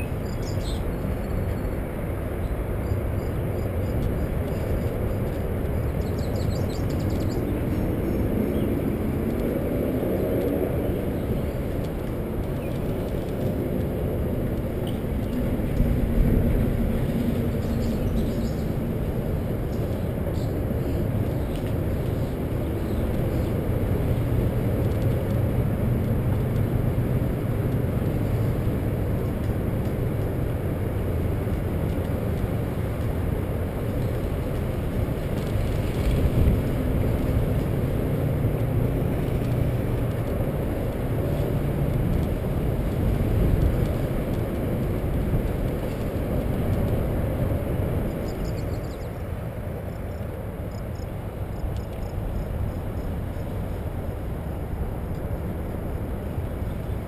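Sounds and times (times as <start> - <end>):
bicycle rolling on trail: 0.0 - 57.0
wind on microphone: 0.0 - 57.0.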